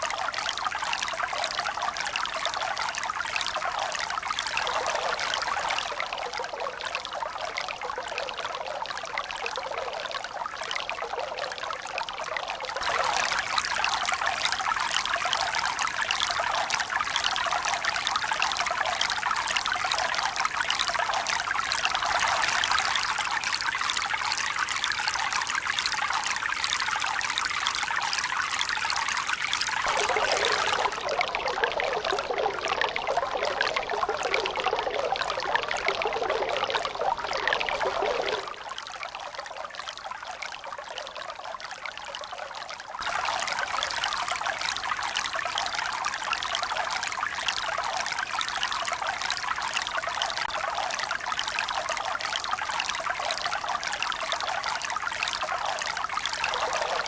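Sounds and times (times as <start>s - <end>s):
running trickling water: 0.0s - 57.0s.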